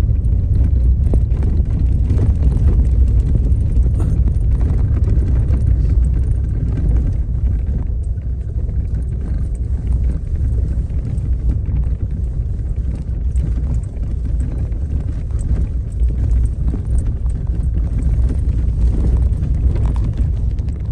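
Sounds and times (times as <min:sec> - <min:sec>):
vehicle rumbling on gravel: 0:00.0 - 0:20.9.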